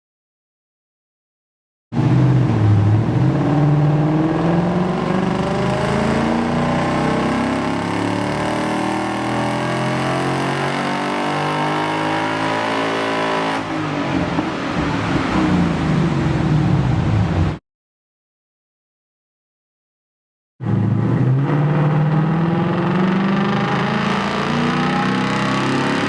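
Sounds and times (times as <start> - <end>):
car engine revving under load: 2.0 - 17.6, 20.6 - 26.0.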